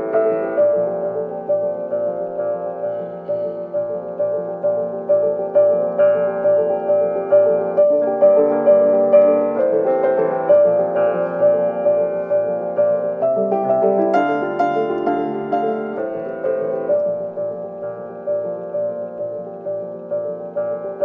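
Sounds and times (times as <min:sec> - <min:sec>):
upright piano playing: 0:00.0 - 0:21.0.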